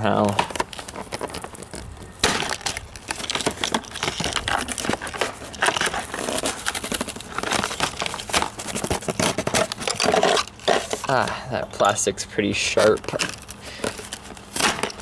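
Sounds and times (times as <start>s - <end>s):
plastic packaging crinkling: 0.0s - 11.4s, 12.6s - 15.0s.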